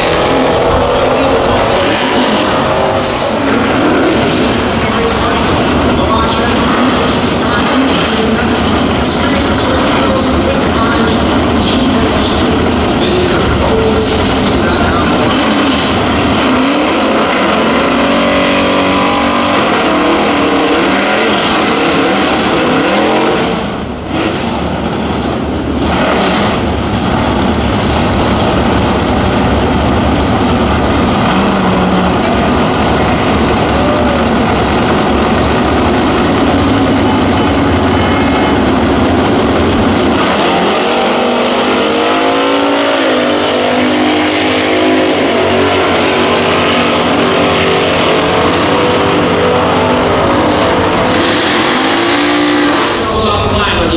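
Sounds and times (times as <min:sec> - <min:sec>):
drag car engines revving: 0:00.0 - 0:53.9.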